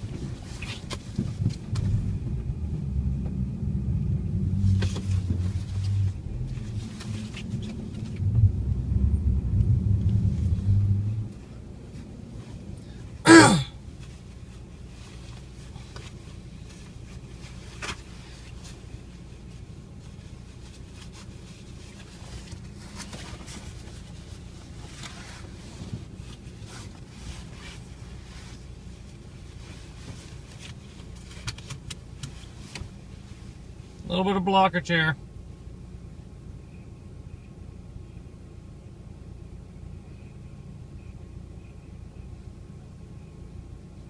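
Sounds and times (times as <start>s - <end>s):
car engine and road hum: 0.0s - 44.0s.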